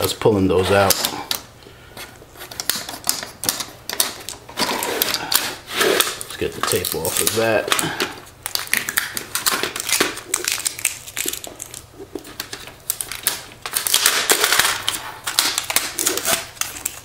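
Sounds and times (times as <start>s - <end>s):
packing tape ripping: 2.4s - 17.0s.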